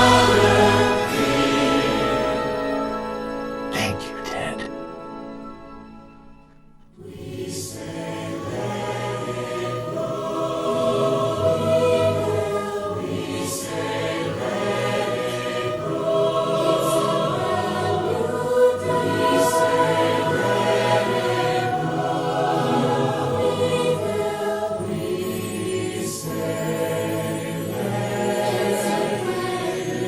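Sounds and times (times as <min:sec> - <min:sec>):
choir singing with musical backing: 0:00.0 - 0:30.0.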